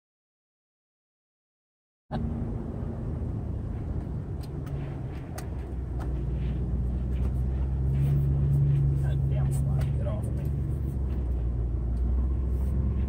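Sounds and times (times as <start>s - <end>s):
tyres on dirt road: 2.1s - 13.0s
vehicle engine drone: 2.1s - 13.0s.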